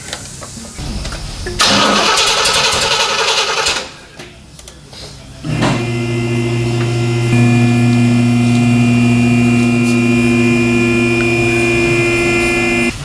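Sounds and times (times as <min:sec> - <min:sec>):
car engine idling: 0:00.8 - 0:04.2, 0:05.3 - 0:13.0.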